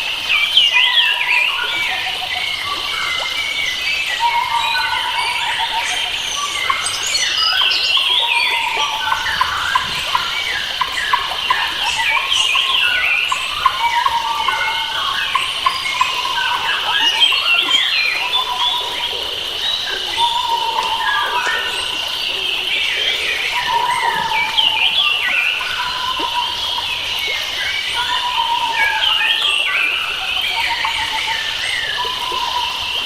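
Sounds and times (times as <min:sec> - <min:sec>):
birds chirping and singing: 0:03.9 - 0:32.7.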